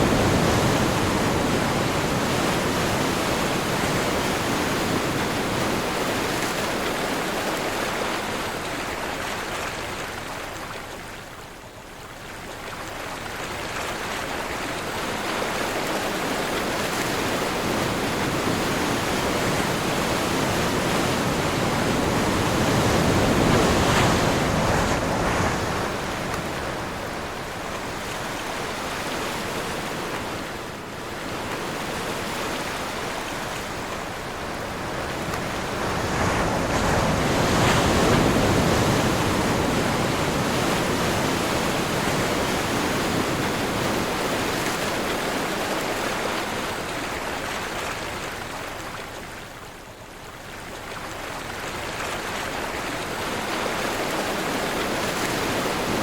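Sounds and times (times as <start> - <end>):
ocean surf washing ashore: 0.0 - 11.1, 12.7 - 56.0
wind: 0.0 - 56.0.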